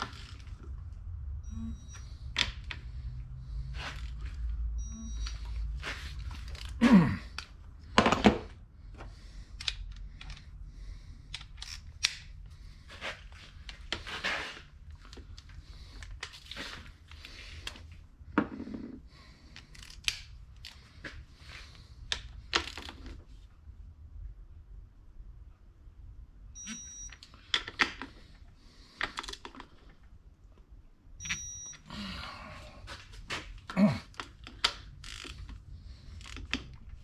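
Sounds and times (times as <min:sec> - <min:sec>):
faint low hum: 0:00.0 - 0:37.0.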